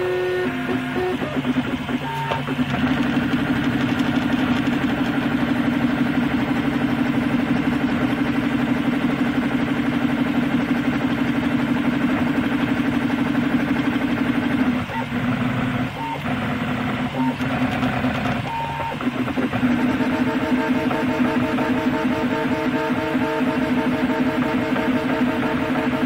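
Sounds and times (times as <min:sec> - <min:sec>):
stepper motors buzzing: 0:00.0 - 0:26.0.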